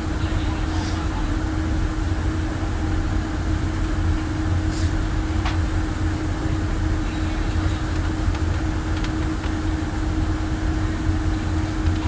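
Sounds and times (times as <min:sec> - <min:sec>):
constant droning tone: 0:00.0 - 0:12.0
low machinery hum: 0:00.0 - 0:12.0.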